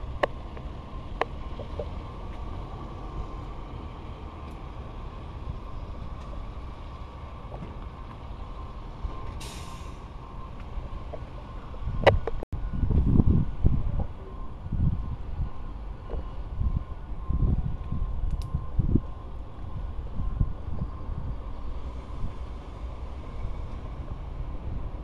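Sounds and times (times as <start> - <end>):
truck engine rumble: 0.0 - 25.0.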